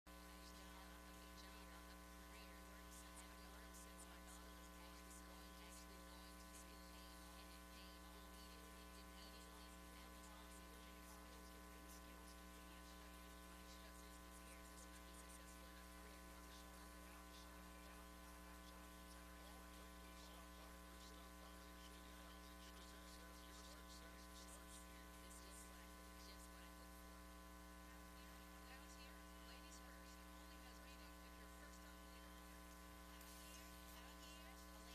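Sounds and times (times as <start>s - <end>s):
faint electrical hum: 0.1s - 34.9s.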